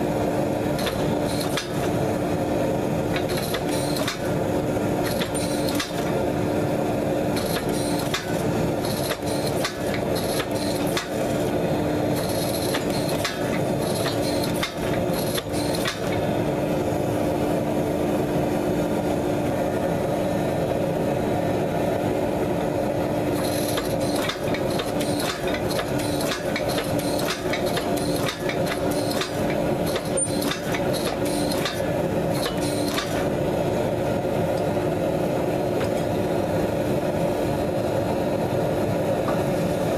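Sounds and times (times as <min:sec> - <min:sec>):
forging press motor hum: 0:00.0 - 0:39.9.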